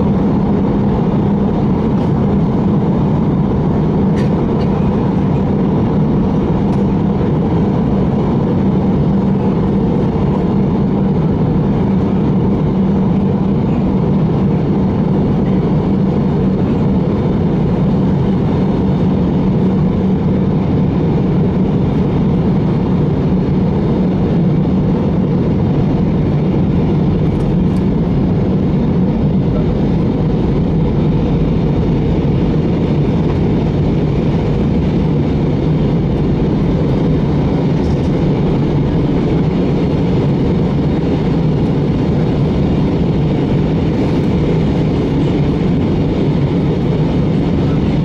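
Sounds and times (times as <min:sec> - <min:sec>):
airplane cabin noise: 0:00.0 - 0:48.0.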